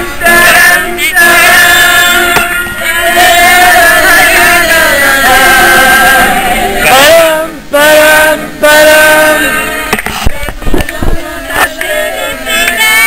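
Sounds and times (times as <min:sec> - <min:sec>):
group of people singing in unison: 0:00.0 - 0:13.0.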